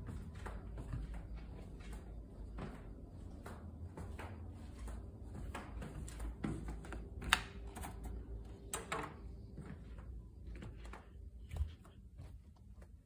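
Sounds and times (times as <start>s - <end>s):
footsteps: 0.0s - 13.0s.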